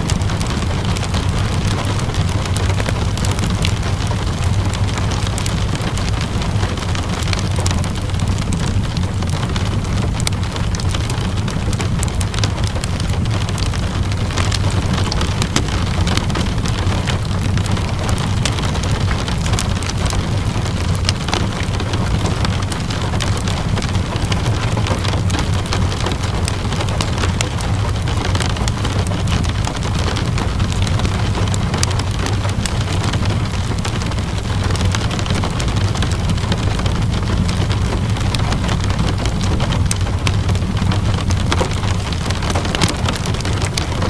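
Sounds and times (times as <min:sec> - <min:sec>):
steady rainfall: 0:00.0 - 0:44.0
wood fire crackling: 0:00.0 - 0:44.0.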